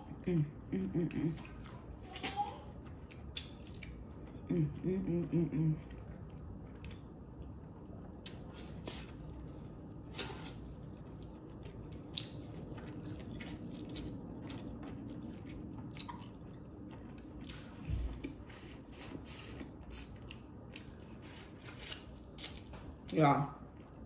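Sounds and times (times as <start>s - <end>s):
chewing corn with mouth smacks: 1.3s - 4.5s, 5.9s - 23.0s.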